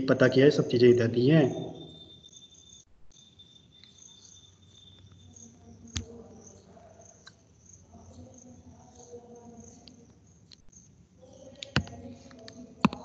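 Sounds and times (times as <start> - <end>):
pulsing high-pitched chirping: 0.0 - 11.8.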